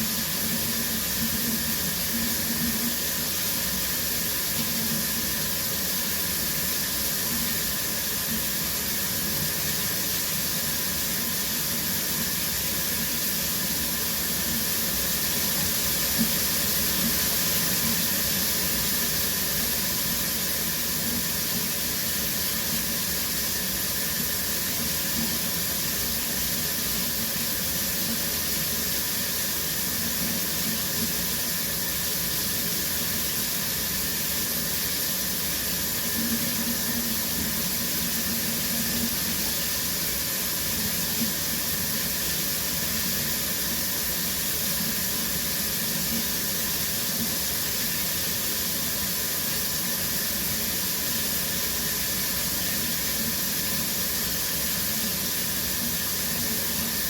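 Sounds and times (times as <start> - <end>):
shower water spraying: 0.0 - 57.0.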